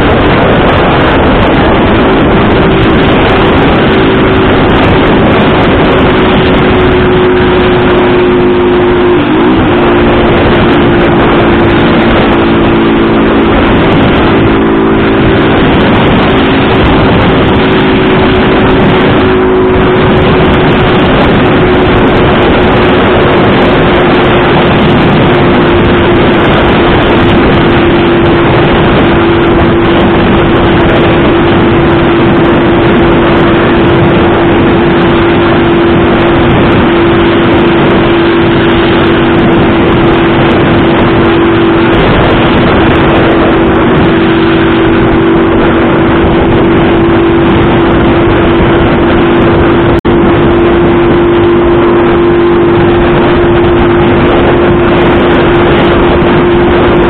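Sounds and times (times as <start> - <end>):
loud rushing noise: 0.0 - 57.0
motorcycle engine running: 0.0 - 57.0.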